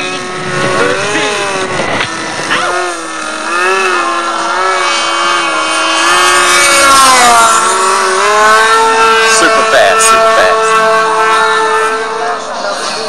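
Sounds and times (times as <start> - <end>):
model airplane motor and propeller: 0.0 - 13.0.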